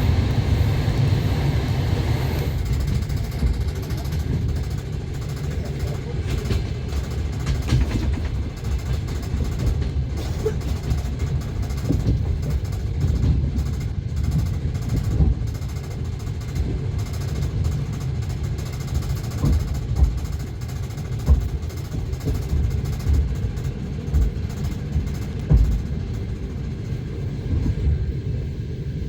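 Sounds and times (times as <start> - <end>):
wheels knocking on track: 0.0 - 28.0
train rumble: 0.0 - 29.0.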